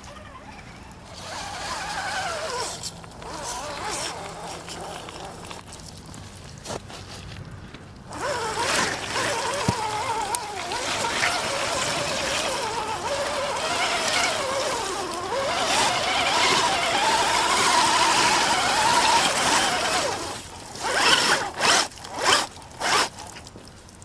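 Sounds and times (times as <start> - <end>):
toy truck motor whining: 0.0 - 5.8, 8.1 - 23.4.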